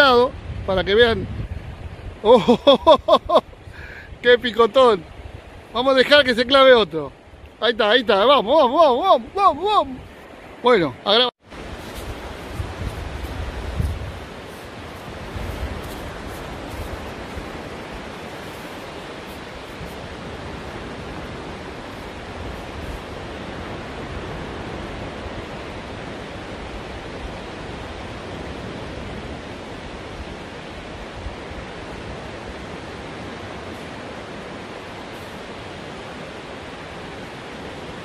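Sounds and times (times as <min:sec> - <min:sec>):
wind rumble on microphone: 0:00.0 - 0:06.4, 0:11.5 - 0:38.0
surf breaking on beach: 0:00.0 - 0:38.0.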